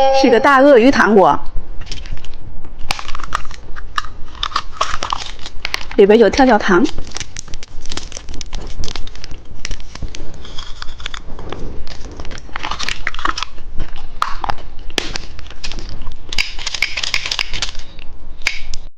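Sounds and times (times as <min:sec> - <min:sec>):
plastic wrapper crinkling: 0:01.8 - 0:18.0.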